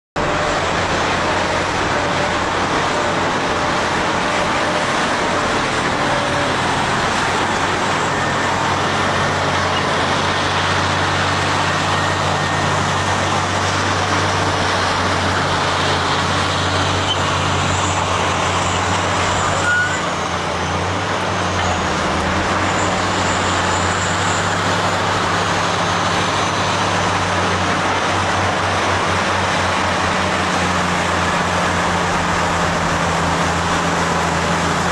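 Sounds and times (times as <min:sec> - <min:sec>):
heavy diesel engines droning: 0:00.1 - 0:34.9.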